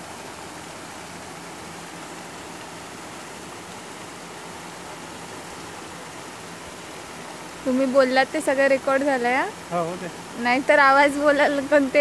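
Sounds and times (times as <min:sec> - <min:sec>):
water churned by paddle wheels: 0:00.0 - 0:12.0.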